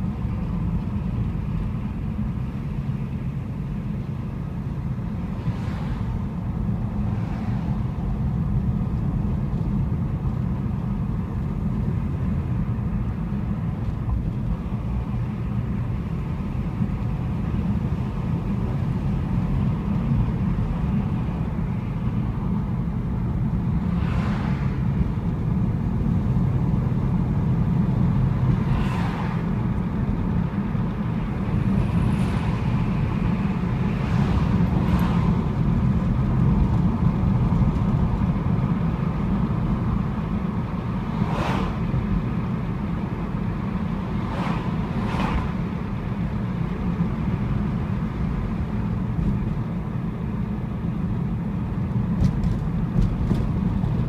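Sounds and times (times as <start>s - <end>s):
car engine cruising: 0.0s - 54.0s.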